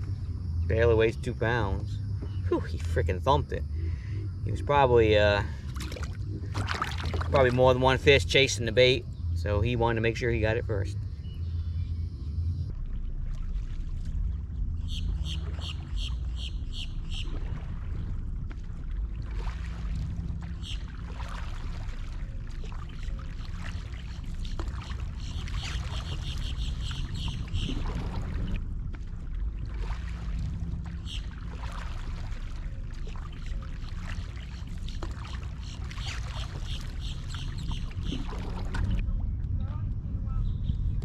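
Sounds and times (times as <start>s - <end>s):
steady low rumble: 0.0s - 41.0s
water lapping around kayak: 0.0s - 41.0s.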